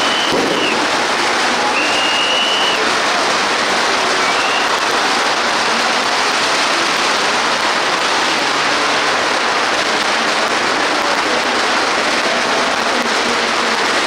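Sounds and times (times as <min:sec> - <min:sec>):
crowd shouting and cheering: 0:00.0 - 0:14.0.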